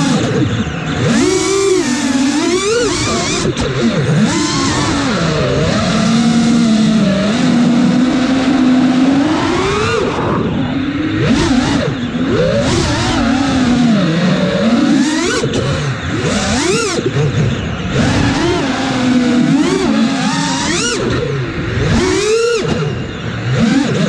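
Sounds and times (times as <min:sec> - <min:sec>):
quadcopter motors buzzing whine: 0:00.0 - 0:24.0.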